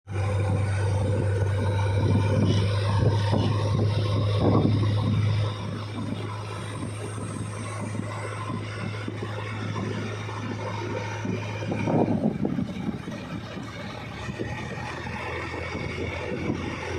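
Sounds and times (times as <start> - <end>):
diesel engine humming: 0.1 - 16.9.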